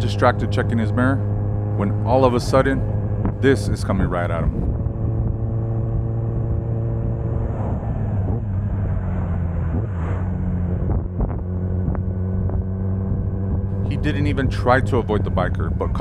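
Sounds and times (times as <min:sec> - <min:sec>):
motorcycle engine cruising: 0:00.0 - 0:16.0
wind noise: 0:02.3 - 0:16.0.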